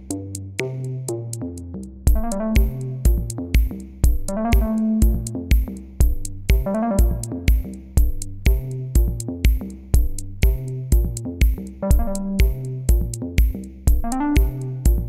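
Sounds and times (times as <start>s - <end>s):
electronic music: 2.1s - 15.0s.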